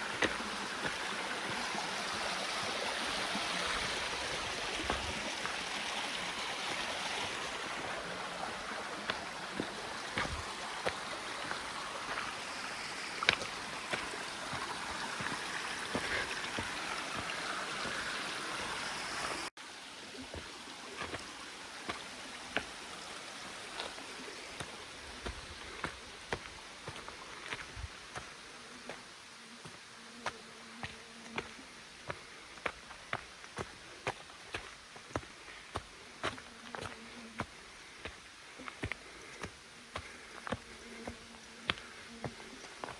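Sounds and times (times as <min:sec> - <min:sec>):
footsteps on trail: 0:00.0 - 0:19.3, 0:20.3 - 0:42.9
mountain stream running: 0:00.0 - 0:42.9.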